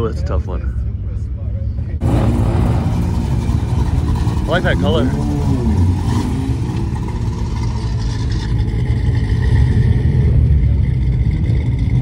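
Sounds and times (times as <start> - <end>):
car engine running: 1.9 - 12.0.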